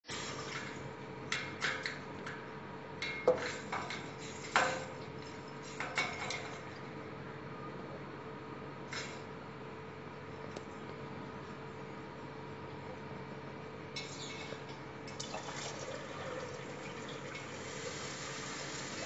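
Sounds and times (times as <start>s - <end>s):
faint hum: 0.1s - 19.0s.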